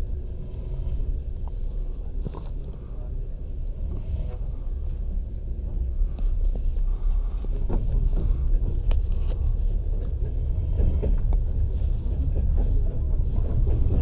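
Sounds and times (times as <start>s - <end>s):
train carriage rumbling: 0.0s - 14.0s.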